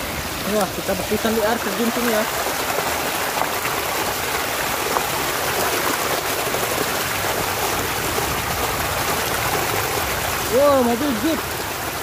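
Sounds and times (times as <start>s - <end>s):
water rushing from waterfall: 0.0s - 12.0s
water splashing over toy truck: 0.0s - 12.0s.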